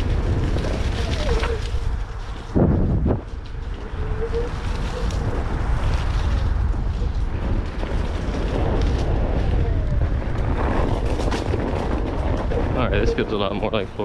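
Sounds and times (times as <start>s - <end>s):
tire clicks and crackles on ground: 0.0s - 14.0s
wind buffeting microphone: 0.0s - 14.0s.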